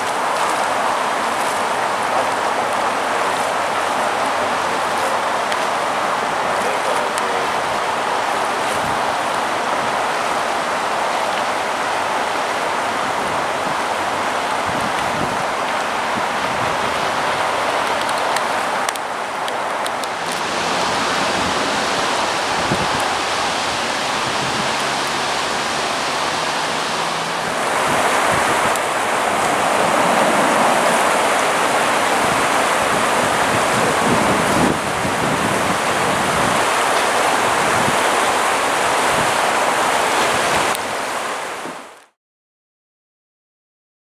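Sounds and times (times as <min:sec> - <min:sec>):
river water rushing: 0:00.0 - 0:42.2.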